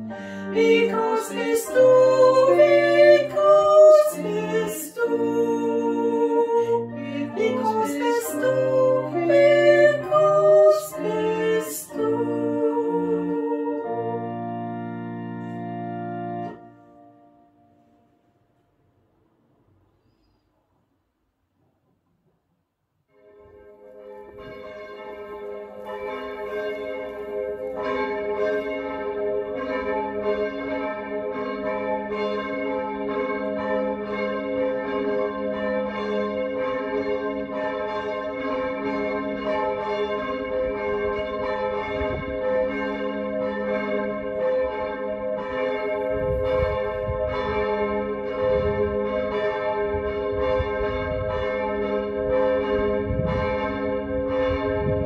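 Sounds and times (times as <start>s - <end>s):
church bells ringing: 0.0s - 17.8s, 23.3s - 55.0s.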